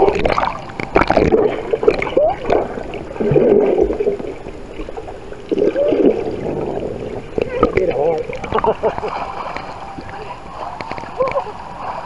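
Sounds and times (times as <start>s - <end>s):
air bubbles gurgling: 0.0s - 11.5s
churning water underwater: 0.0s - 12.0s.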